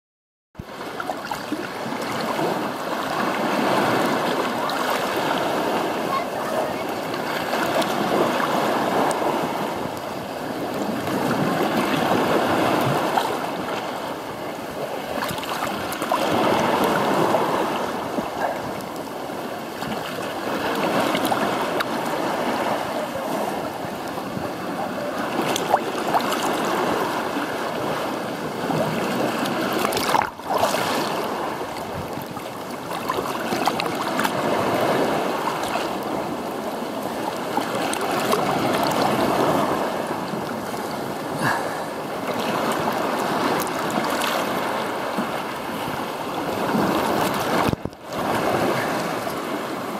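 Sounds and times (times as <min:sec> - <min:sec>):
small waves washing over rocks: 0:00.6 - 0:49.9.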